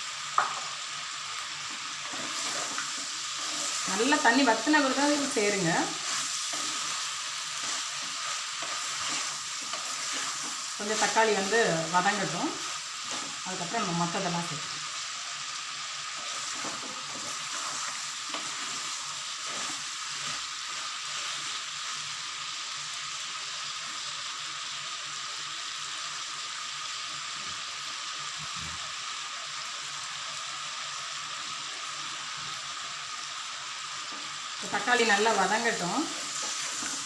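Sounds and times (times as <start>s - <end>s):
food sizzling in a hot pan: 0.0s - 37.0s.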